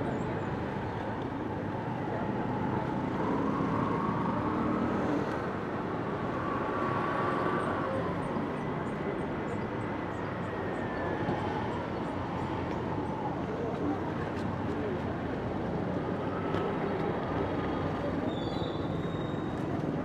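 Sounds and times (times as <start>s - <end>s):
hum of vehicle noise: 0.0s - 20.0s.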